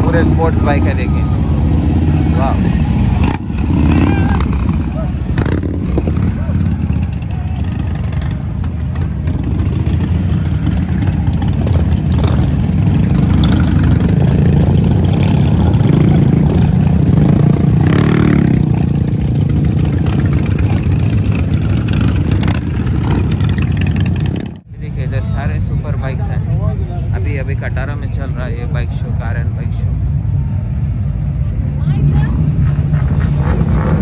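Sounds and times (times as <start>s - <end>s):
motorcycle engines running: 0.0s - 34.0s.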